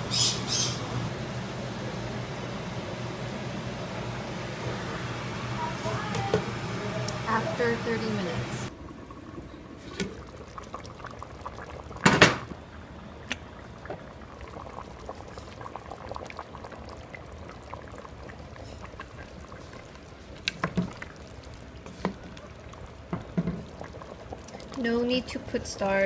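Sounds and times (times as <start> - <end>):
stew simmering in a pot: 4.5 - 26.0.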